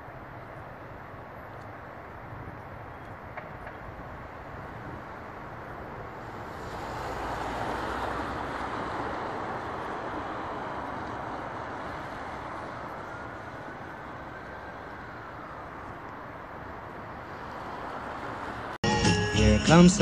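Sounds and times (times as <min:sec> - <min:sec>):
road traffic passing: 0:00.0 - 0:20.0
steady city hum: 0:00.0 - 0:20.0.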